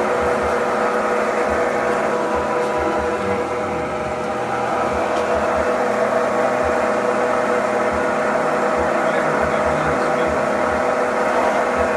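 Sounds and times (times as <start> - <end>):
lathe mechanical hum: 0.0 - 11.9.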